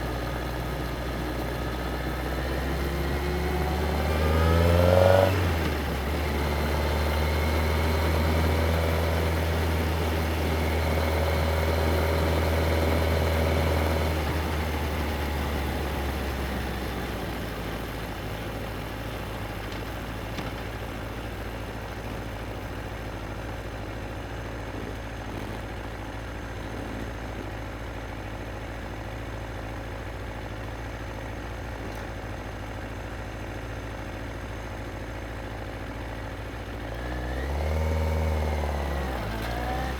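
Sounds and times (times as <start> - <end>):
motorcycle engine running and idling: 0.0 - 39.9.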